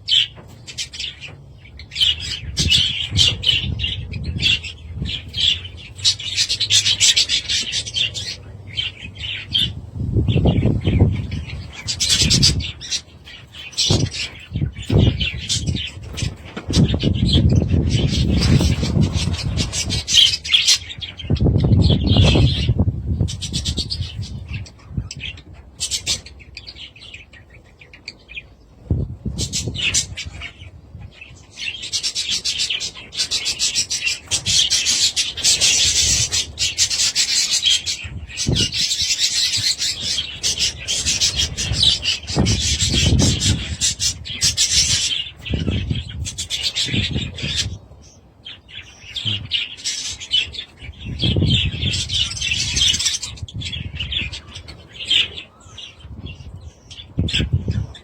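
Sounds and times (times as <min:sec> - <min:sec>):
budgerigars chattering: 0:00.0 - 0:28.6, 0:29.3 - 0:58.0.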